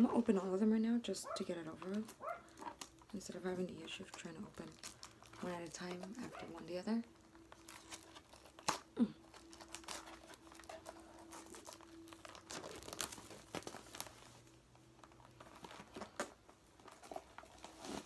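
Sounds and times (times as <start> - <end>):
snack wrappers crinkling and tearing: 1.9 - 18.0.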